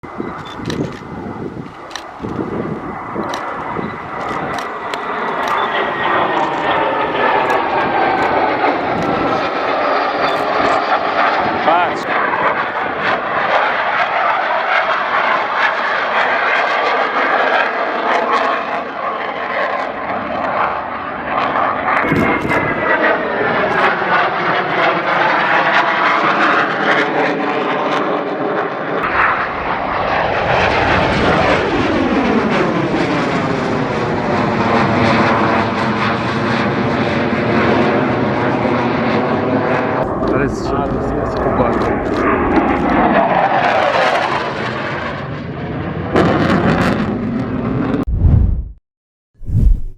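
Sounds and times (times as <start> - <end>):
jet aircraft flying past low: 0.0 - 48.5.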